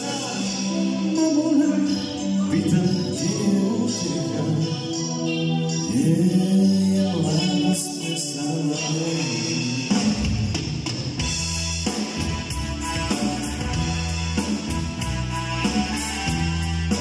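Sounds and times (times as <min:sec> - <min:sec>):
drum kit beating time: 0:00.0 - 0:17.0
keyboard melody and chords: 0:00.0 - 0:17.0.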